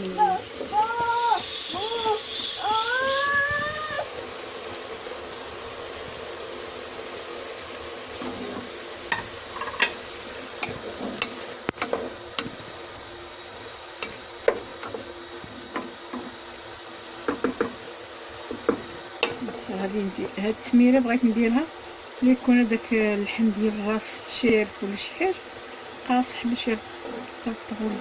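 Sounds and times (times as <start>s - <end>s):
food sizzling in pot: 0.0s - 28.0s.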